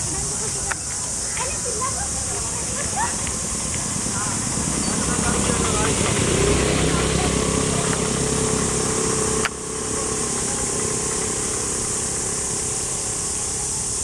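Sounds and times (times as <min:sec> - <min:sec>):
insect drone: 0:00.0 - 0:14.0
low engine-like hum: 0:00.0 - 0:14.0.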